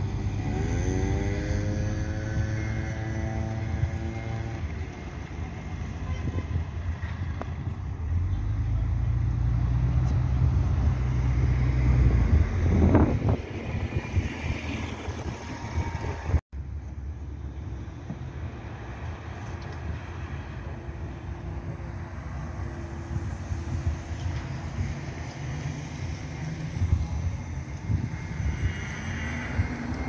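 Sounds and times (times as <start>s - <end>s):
bus driving past: 0.0s - 30.0s
steady traffic noise: 0.0s - 30.0s.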